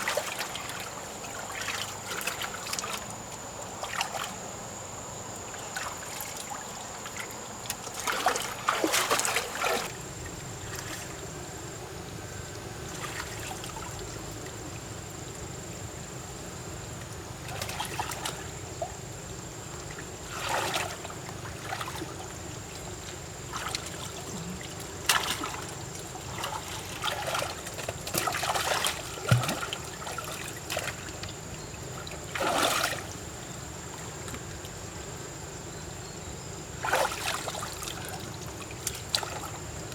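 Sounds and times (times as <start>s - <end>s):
water splashing and sloshing: 0.0s - 16.1s, 16.8s - 35.5s, 36.3s - 39.9s
low background hum: 0.0s - 39.9s.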